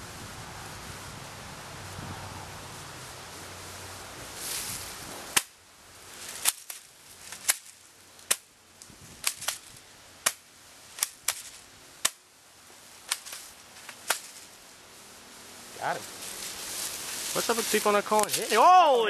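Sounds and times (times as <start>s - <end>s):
rustling: 2.8s - 19.0s.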